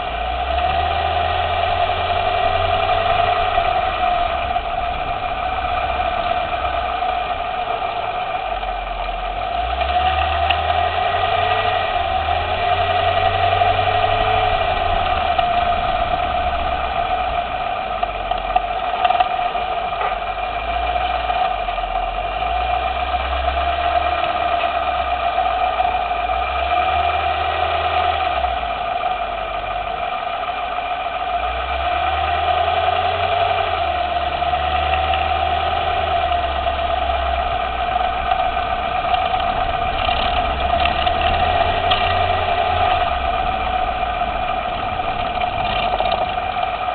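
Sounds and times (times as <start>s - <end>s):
car engine humming: 0.0s - 46.9s
suspension clicking: 0.0s - 46.9s.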